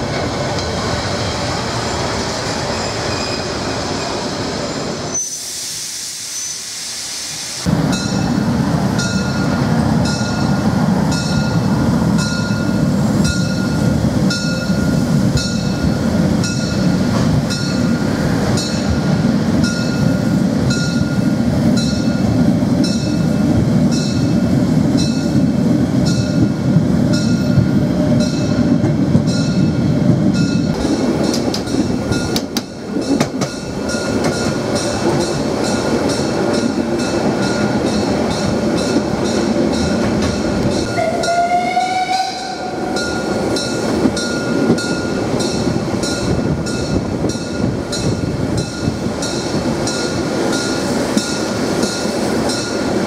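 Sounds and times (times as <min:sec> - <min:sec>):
steam train rumbling: 0:00.0 - 0:53.0
rail clicks: 0:07.6 - 0:53.0.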